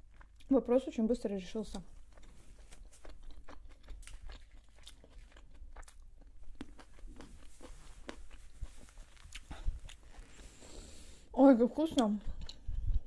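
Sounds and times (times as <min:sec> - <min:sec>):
person chewing food: 0:00.0 - 0:00.5, 0:01.9 - 0:11.3, 0:12.2 - 0:13.0.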